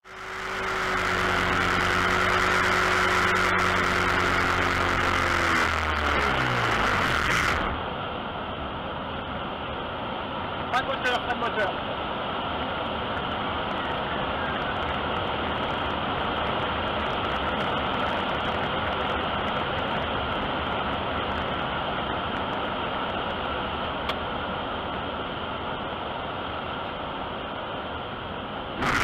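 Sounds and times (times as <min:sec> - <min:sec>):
rushing airflow in cockpit: 0:00.0 - 0:27.7, 0:28.3 - 0:29.0.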